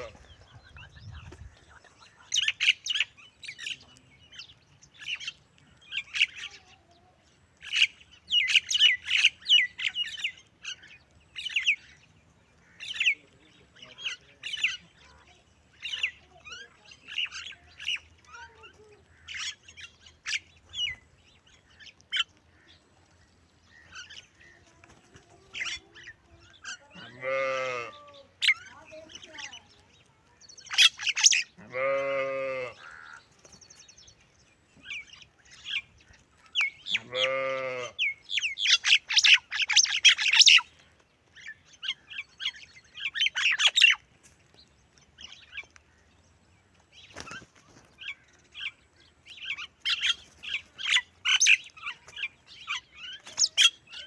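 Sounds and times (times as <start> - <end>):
birds squawking and chirping: 0.0 - 54.0.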